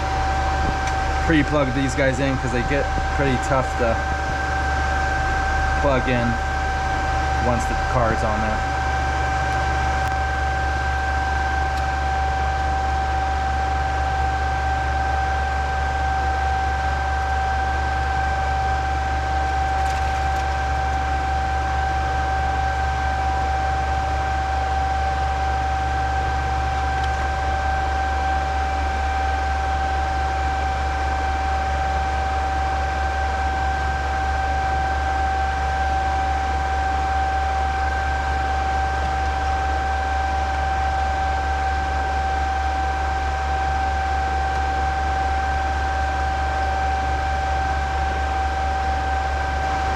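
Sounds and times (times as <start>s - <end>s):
computer cooling fans running: 0.0s - 49.9s.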